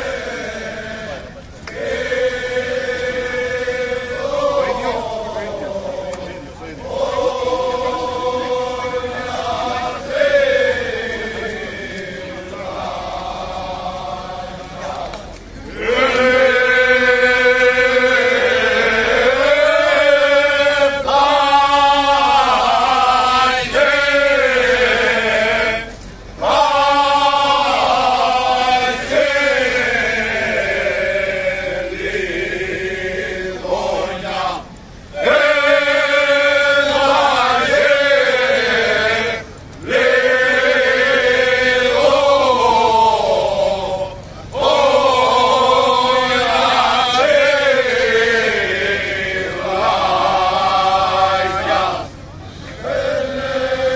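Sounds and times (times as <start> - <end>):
men singing unaccompanied: 0.0 - 53.9.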